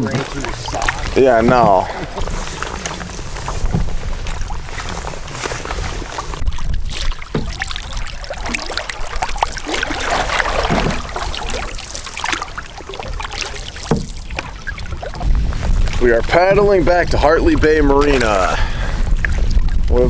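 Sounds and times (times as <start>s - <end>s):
paddle splashing in water: 0.0s - 20.0s.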